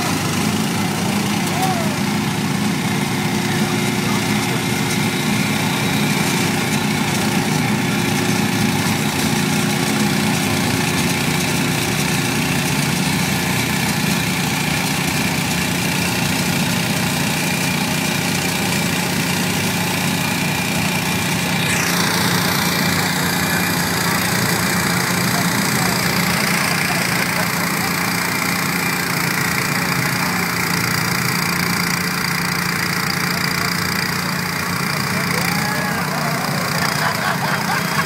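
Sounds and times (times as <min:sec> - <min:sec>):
garden tractor engine running: 0:00.0 - 0:38.0.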